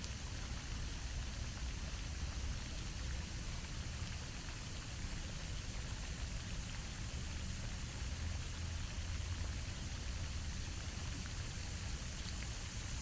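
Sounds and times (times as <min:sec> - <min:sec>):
fountain spray splashing on water: 0:00.0 - 0:13.0.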